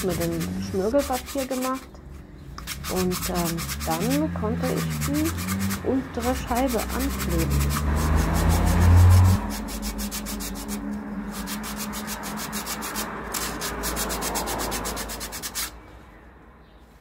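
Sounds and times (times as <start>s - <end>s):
sandpaper rubbing on wood: 0.0s - 1.9s, 2.6s - 15.8s.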